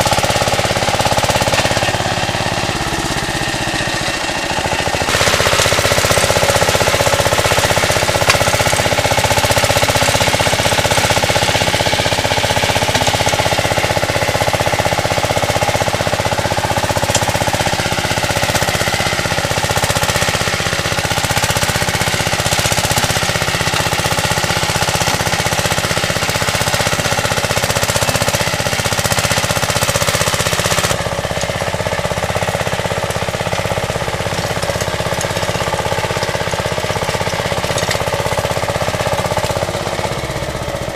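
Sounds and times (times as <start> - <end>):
fast mechanical clatter: 0.0 - 40.9
tractor engine running: 0.0 - 40.9.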